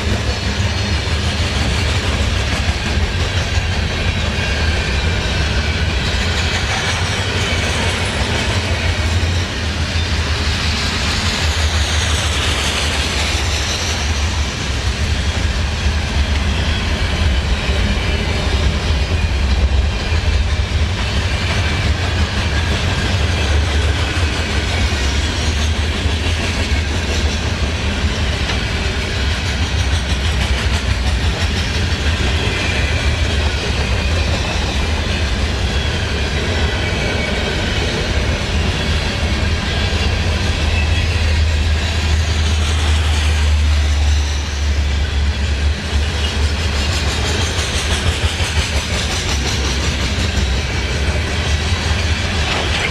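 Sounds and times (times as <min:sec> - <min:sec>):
freight train cars rolling past: 0:00.0 - 0:52.9.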